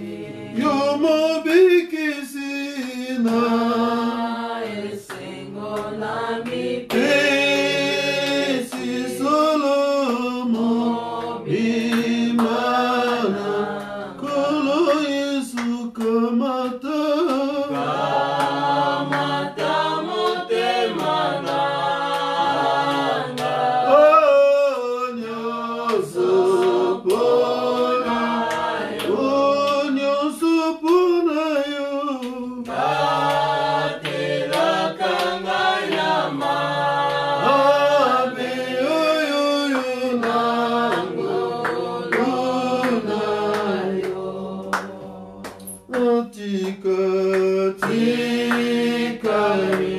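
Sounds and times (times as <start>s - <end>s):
group singing a hymn unaccompanied: 0.0s - 49.9s.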